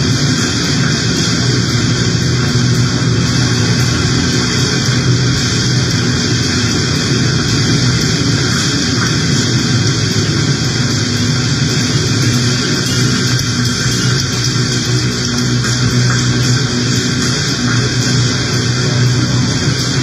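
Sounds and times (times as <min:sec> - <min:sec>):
loud hissing noise: 0:00.0 - 0:20.0
low hum: 0:00.0 - 0:20.0.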